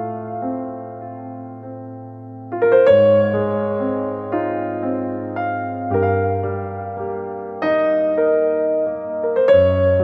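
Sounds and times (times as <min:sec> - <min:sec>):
slow keyboard music: 0:00.0 - 0:10.0.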